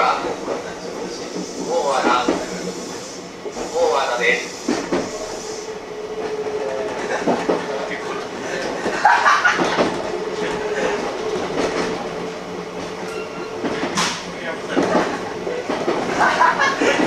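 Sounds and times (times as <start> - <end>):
train steady hum: 0.0 - 17.0
train wheels clicking over rails: 0.2 - 17.0.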